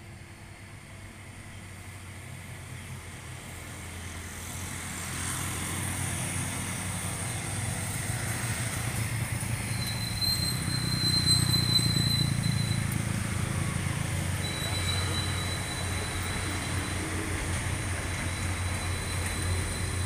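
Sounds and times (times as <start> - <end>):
truck diesel engine under load: 1.2 - 20.0.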